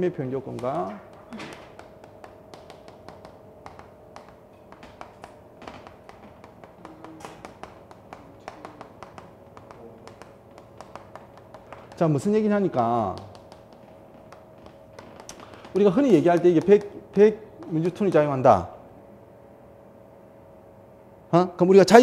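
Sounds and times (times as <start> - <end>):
chalk tapping and scraping on blackboard: 0.0 - 18.4.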